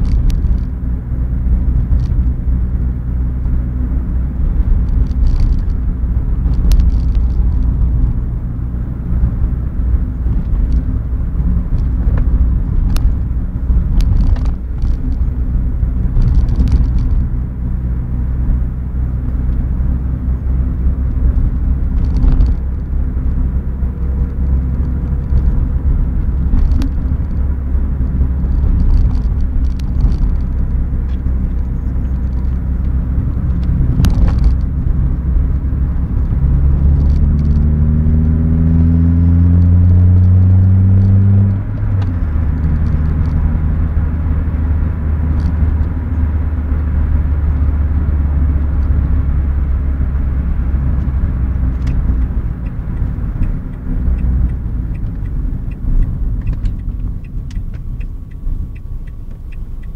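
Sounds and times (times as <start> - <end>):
car engine inside cabin: 0.0 - 59.9
road noise: 0.0 - 59.9.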